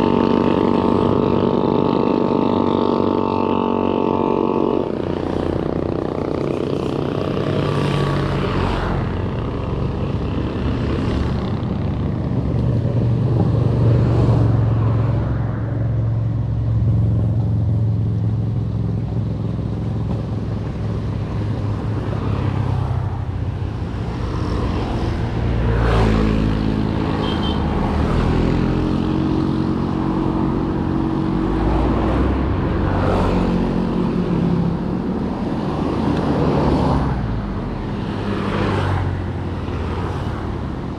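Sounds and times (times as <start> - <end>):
motor vehicle engines running: 0.0 - 40.9.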